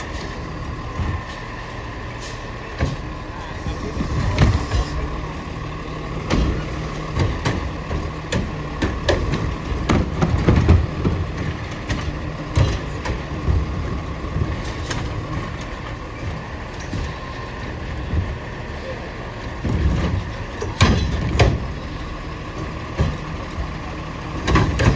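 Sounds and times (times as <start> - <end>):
garbage truck engine hum: 0.0 - 24.9
knocks and clanks: 2.6 - 18.6, 19.4 - 24.9.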